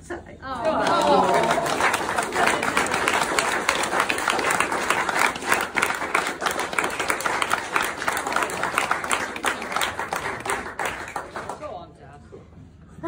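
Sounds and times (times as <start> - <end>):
guests clapping: 0.6 - 11.8.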